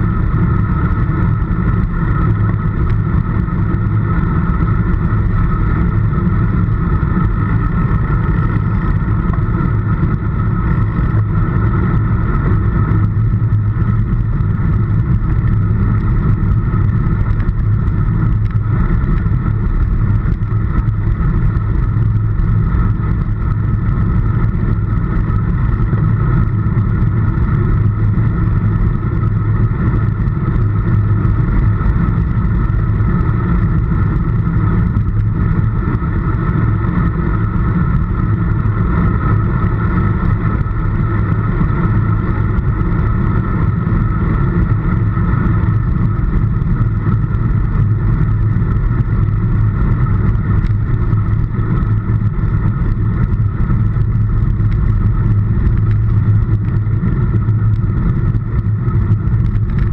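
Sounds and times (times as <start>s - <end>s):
bike tyres on tarmac: 0.0s - 59.9s
wind buffeting microphone: 0.0s - 59.9s.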